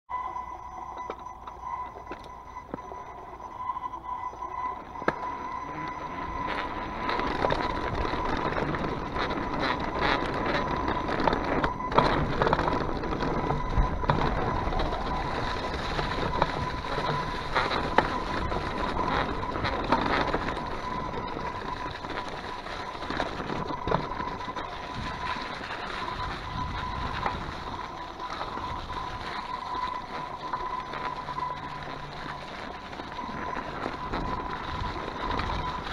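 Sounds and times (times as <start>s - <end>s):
bike tyre rumble on dirt: 1.7s - 35.9s
bike clattering over bumps: 5.0s - 35.9s.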